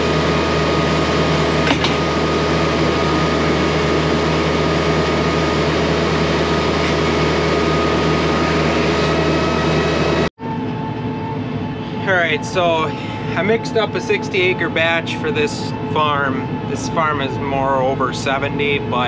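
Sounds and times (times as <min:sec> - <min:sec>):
engine drone: 0:00.0 - 0:19.0
thin steady whine: 0:00.0 - 0:19.0.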